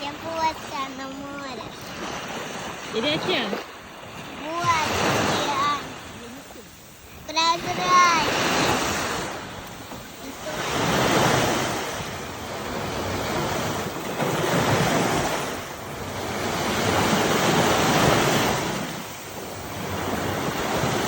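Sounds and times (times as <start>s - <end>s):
waves breaking on shore: 0.0s - 21.0s.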